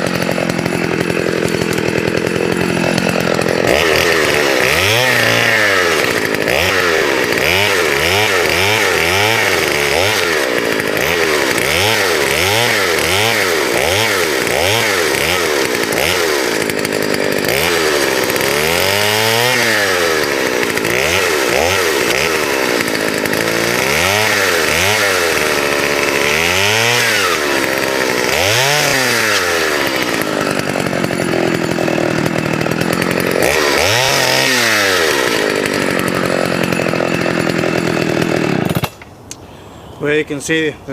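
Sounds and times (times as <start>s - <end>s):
chainsaw revving cutting branches: 0.0s - 39.2s.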